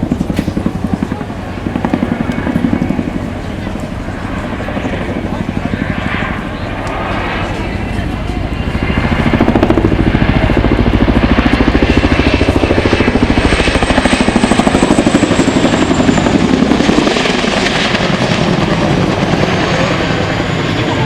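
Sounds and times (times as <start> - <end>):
helicopter rotor beat: 0.0 - 21.0.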